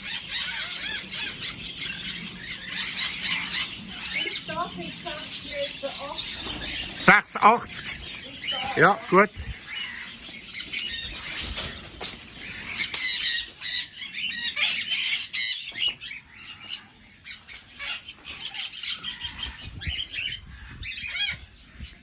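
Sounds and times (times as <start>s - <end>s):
cockatiels chirping and squawking: 0.0s - 22.0s.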